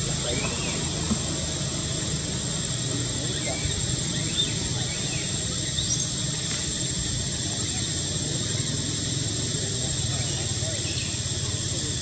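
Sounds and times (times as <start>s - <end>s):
high insect whine: 0.0s - 12.0s.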